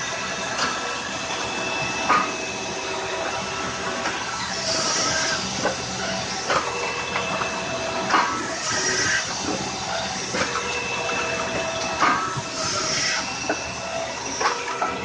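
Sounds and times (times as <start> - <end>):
firewood processor humming: 0.0 - 15.0.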